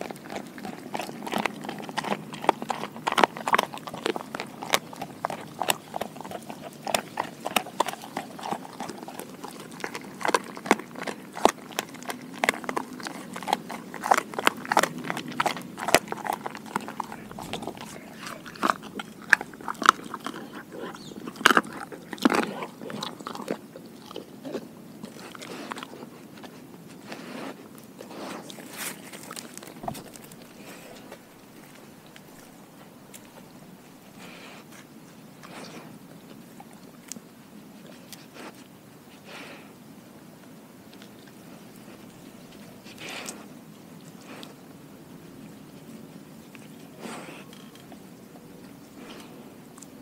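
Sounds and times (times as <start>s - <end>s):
dog chewing with wet crunches: 0.0s - 50.0s.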